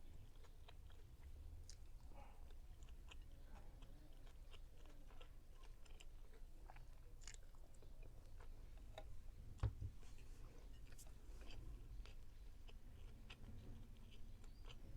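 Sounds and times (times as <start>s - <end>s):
person chewing: 0.0s - 9.2s, 10.0s - 14.9s.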